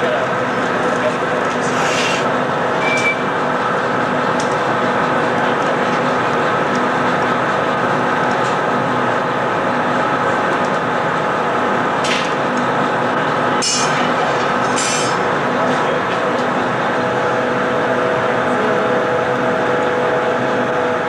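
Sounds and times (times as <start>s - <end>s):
furnace and burners roaring: 0.0s - 21.0s.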